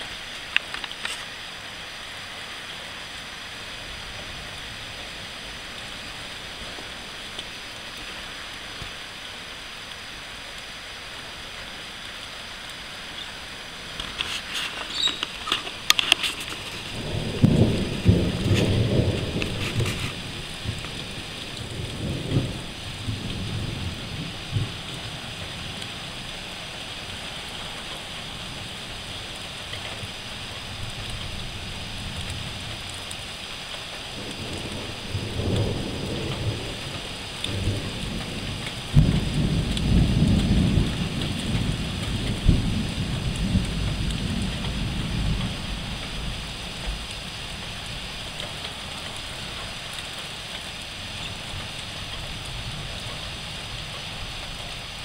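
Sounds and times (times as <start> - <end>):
thunder rumbling: 0.0 - 9.7, 13.1 - 55.0
rain falling: 0.0 - 55.0.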